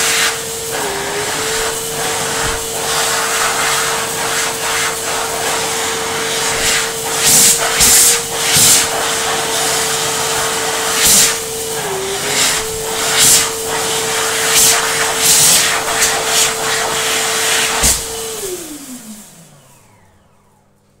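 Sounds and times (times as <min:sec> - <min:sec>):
electric hand dryer blowing: 0:00.0 - 0:21.0.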